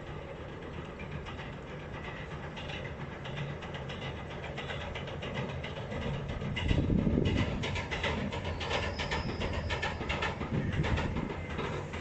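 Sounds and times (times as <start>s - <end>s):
distant train rumbling on bridge: 0.0s - 12.0s
wheel clacks on rail joints: 0.0s - 12.0s.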